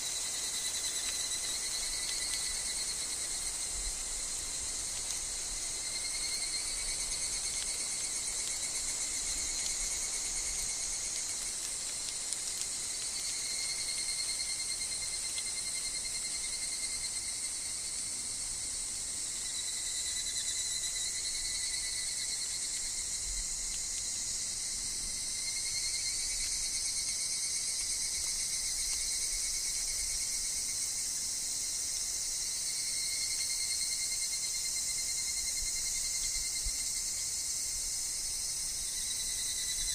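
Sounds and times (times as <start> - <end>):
cicadas and insects chorus: 0.0 - 39.9
pulsing trilled cicada calls: 0.0 - 39.9.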